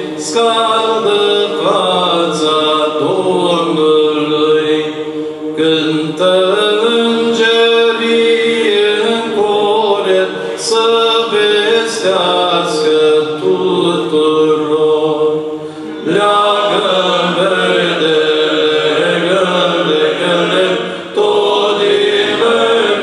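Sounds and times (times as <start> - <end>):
male choir singing a cappella: 0.0 - 23.0.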